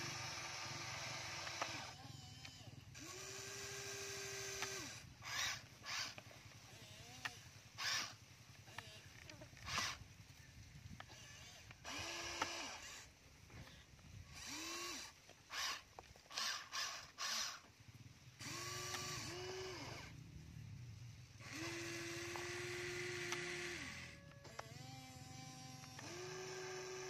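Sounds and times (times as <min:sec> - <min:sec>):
toy excavator motors whining: 0:00.0 - 0:20.2, 0:21.0 - 0:27.0.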